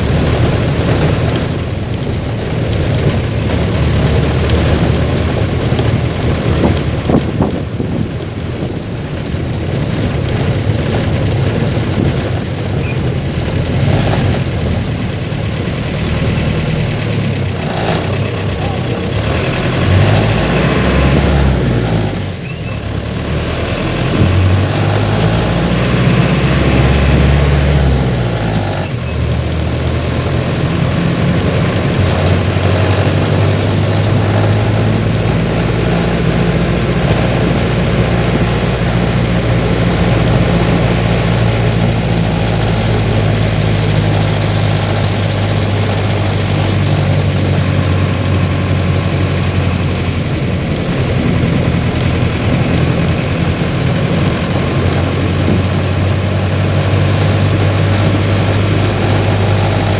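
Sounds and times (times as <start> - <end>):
bus diesel engine revving: 0.0 - 59.9.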